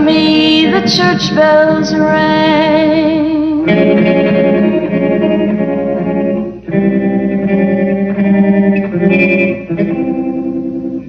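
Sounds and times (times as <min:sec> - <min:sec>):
plucked electric guitar: 0:00.0 - 0:11.0.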